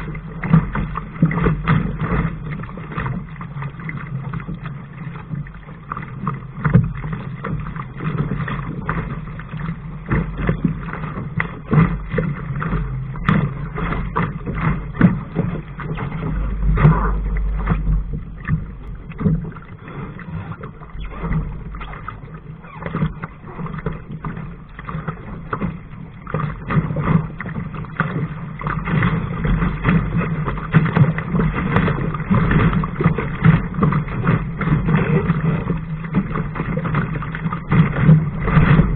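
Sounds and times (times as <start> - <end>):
water splashing against hull: 0.0 - 38.9
wind rumble on microphone: 0.0 - 38.9.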